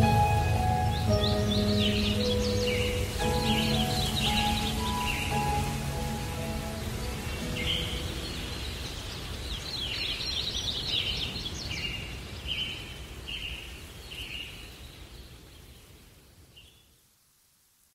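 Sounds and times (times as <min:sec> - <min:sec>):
small birds chirping: 0:00.0 - 0:17.0
steady outdoor hiss: 0:00.0 - 0:17.9.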